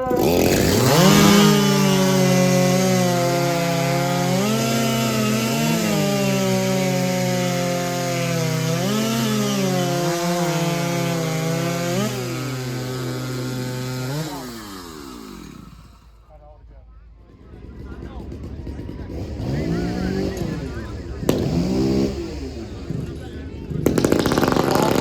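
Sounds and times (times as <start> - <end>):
chainsaw cutting through a log: 0.0 - 16.2, 18.8 - 25.0.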